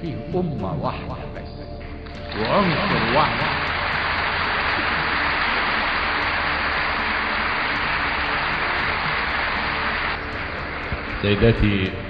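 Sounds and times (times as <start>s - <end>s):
audience applause: 2.2s - 12.0s.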